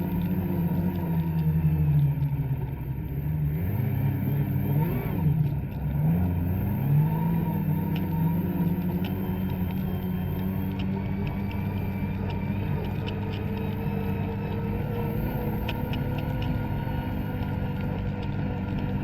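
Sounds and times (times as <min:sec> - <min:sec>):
snowmobile engine under throttle: 0:00.0 - 0:19.0.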